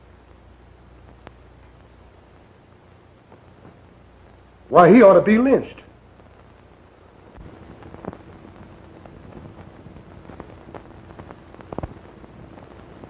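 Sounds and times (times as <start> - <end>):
crackles and pops: 0.0 - 4.8, 5.8 - 13.0
film soundtrack hum: 0.0 - 13.0.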